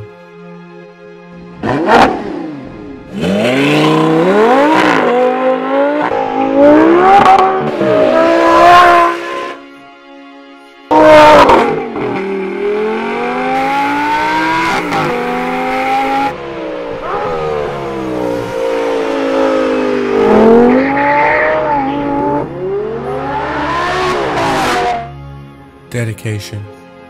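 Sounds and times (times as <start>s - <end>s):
car engine revving hard: 1.6s - 9.6s, 10.9s - 25.1s.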